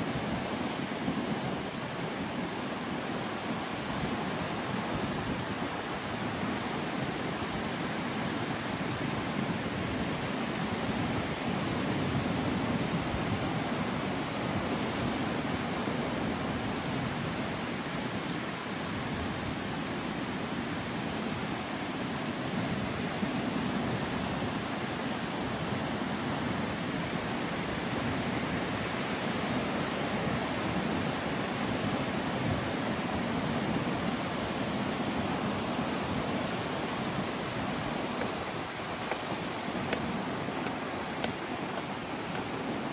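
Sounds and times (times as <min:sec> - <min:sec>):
ocean surf roaring: 0:00.0 - 0:42.9.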